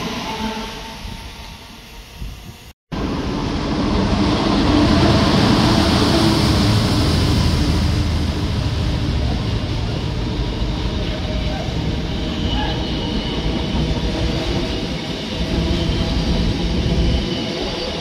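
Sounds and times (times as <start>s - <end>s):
diesel locomotive passing: 0.0s - 18.0s.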